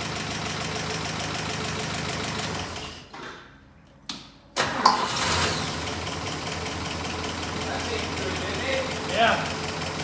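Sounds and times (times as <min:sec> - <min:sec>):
engine running and restarting: 0:00.0 - 0:03.1, 0:04.6 - 0:10.0.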